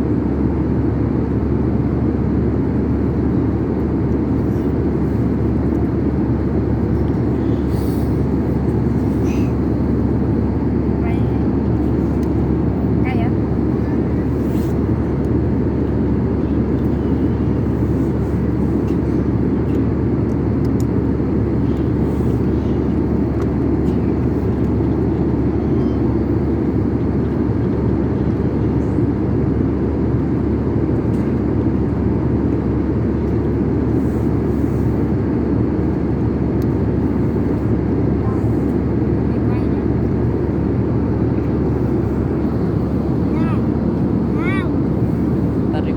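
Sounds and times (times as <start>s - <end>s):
airliner cabin roar: 0.0s - 45.9s.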